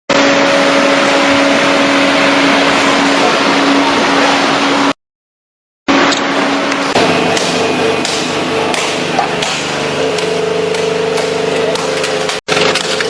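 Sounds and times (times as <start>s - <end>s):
hydraulic baler running: 0.1s - 5.0s, 5.9s - 13.0s.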